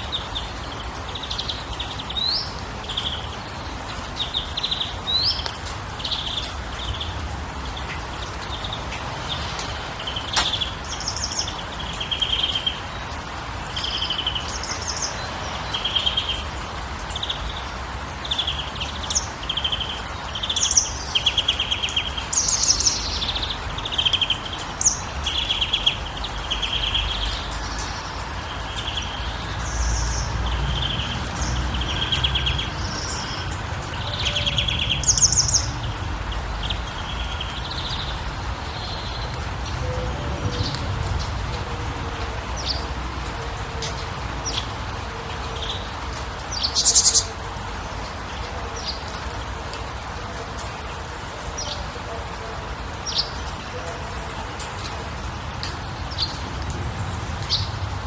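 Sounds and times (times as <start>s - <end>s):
birds chirping: 0.1s - 47.4s.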